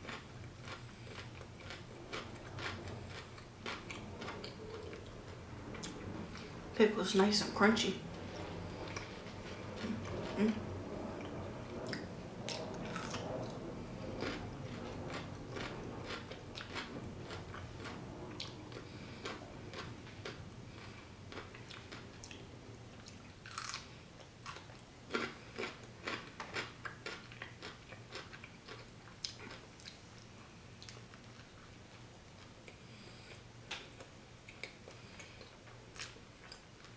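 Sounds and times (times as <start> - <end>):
person chewing crunchy food: 0.0 - 6.6, 8.4 - 10.6, 11.2 - 31.7, 32.3 - 36.9.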